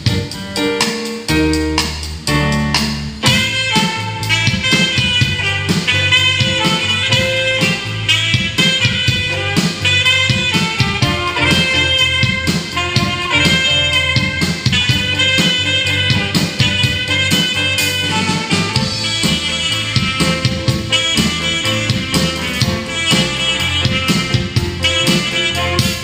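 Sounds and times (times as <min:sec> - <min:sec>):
drum kit: 0:00.0 - 0:26.0
electric bass guitar: 0:00.0 - 0:26.0
keyboards: 0:00.0 - 0:26.0
saxophone melody: 0:02.3 - 0:26.0.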